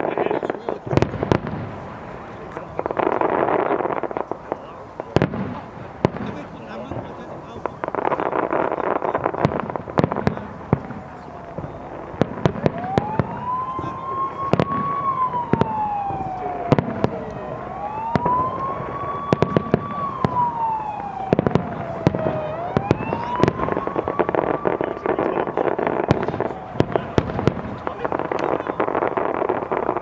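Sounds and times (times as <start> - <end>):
siren wailing: 0.0 - 5.0, 7.8 - 30.0
fireworks bursting: 0.0 - 30.0
fireworks crackling: 0.0 - 30.0.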